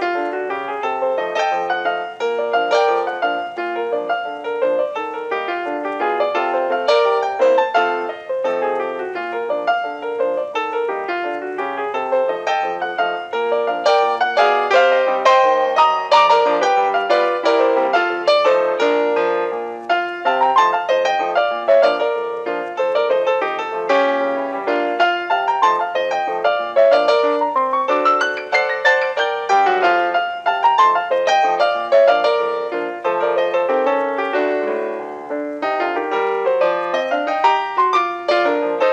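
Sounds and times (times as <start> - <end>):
lively piano piece: 0.0 - 38.9.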